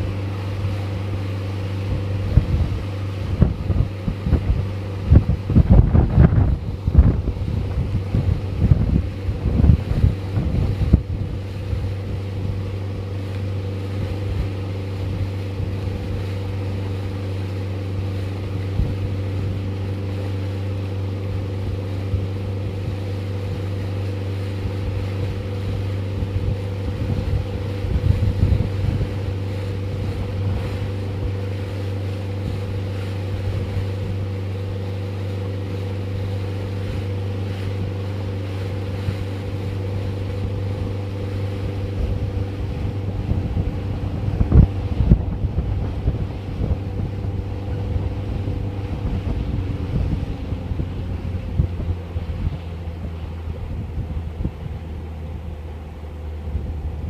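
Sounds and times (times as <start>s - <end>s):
motorboat engine droning: 0.0s - 57.0s
wind buffeting microphone: 0.0s - 57.0s.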